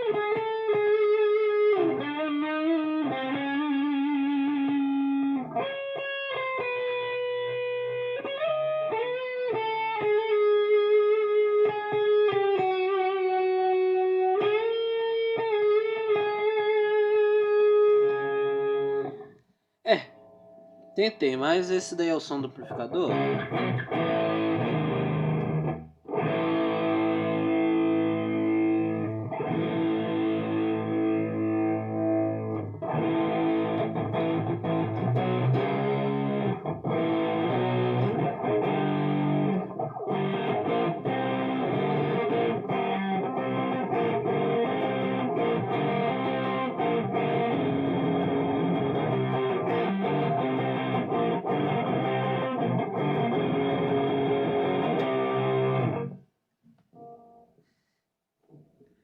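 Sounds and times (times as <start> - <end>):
electric guitar chords and notes: 0.0 - 21.8, 22.4 - 57.6.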